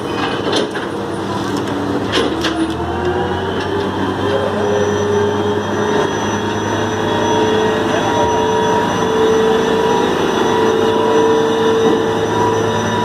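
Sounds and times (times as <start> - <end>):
heavy machinery engine drone: 0.0 - 13.0.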